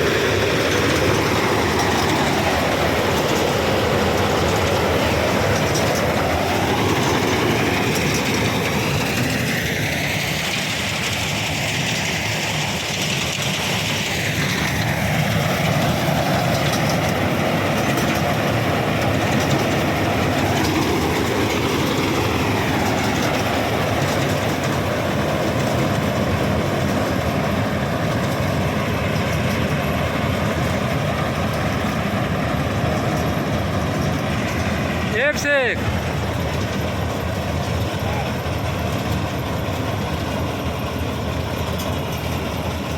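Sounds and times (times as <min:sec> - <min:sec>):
combine harvester running: 0:00.0 - 0:42.9.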